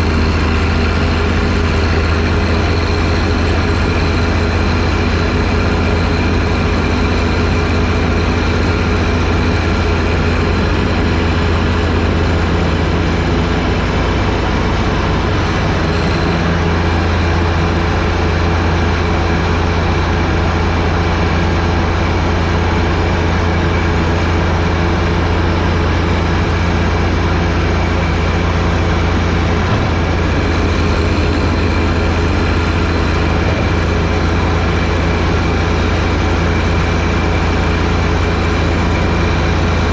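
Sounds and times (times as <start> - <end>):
tractor diesel engine humming: 0.0 - 39.9.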